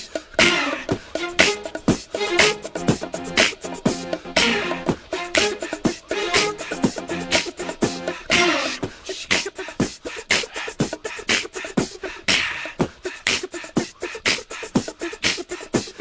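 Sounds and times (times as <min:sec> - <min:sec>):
beatboxed rhythm: 0:00.0 - 0:16.0.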